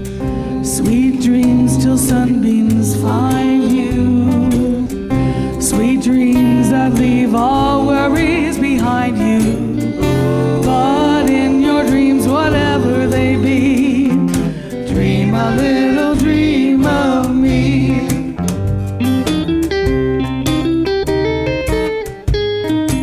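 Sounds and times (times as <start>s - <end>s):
bass: 0.0s - 23.0s
drums: 0.0s - 23.0s.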